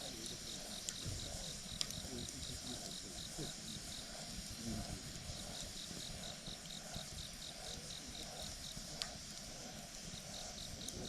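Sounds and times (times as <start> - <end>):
campfire burning: 0.0 - 11.0
fire crackle: 0.0 - 11.0
insect chirping: 0.0 - 11.0.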